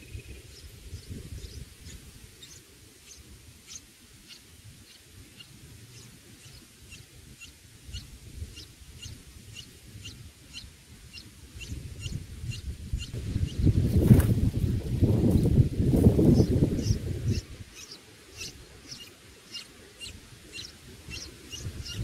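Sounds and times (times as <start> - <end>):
small bird chirping: 0.0 - 14.2, 16.2 - 22.0.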